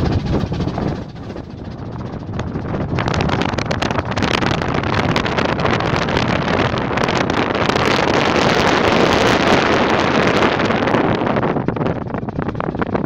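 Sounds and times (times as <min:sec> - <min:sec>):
ship low drone: 0:00.0 - 0:13.0
wind buffeting microphone: 0:00.0 - 0:13.0.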